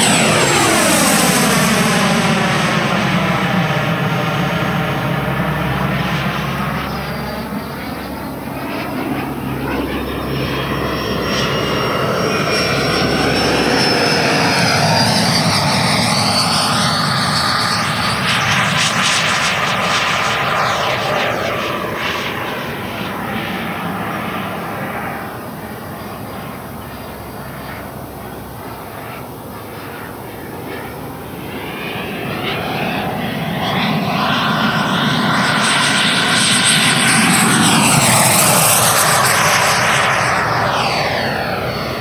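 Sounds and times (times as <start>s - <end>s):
electric ducted fan jet whine: 0.0s - 42.0s.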